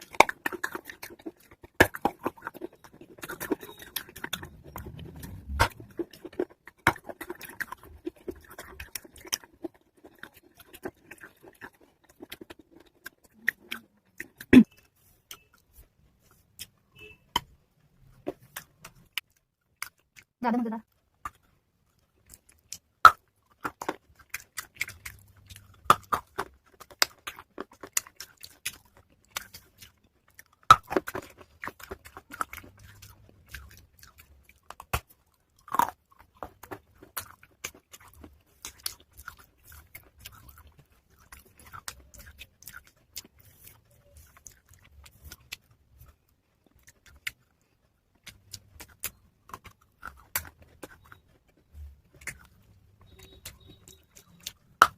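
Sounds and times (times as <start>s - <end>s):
chewing and crunching clay pieces: 0.0s - 54.9s.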